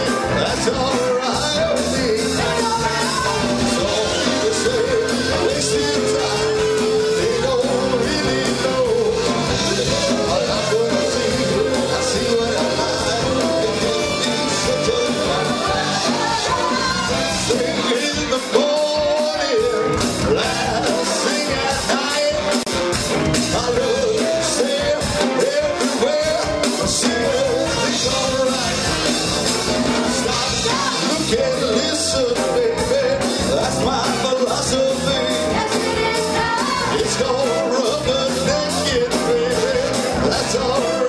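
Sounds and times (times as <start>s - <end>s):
backing vocals: 0.0s - 22.8s, 23.4s - 29.3s, 29.9s - 41.0s
lead singer singing: 0.0s - 41.0s
rock band playing: 0.0s - 41.0s.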